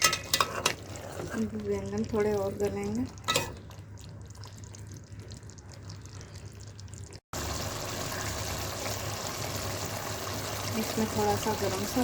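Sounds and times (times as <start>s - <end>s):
curry simmering in a pot: 0.0s - 12.0s.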